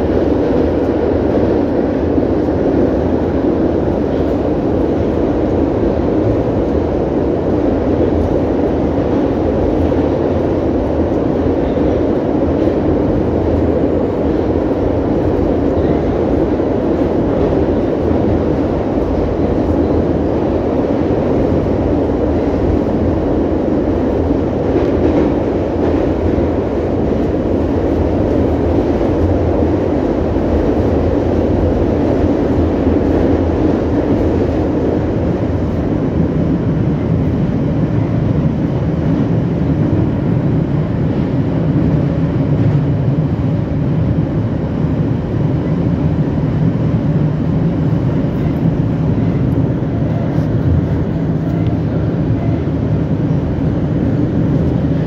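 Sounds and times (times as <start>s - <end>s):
train wheels and motors rumbling: 0.0s - 55.0s.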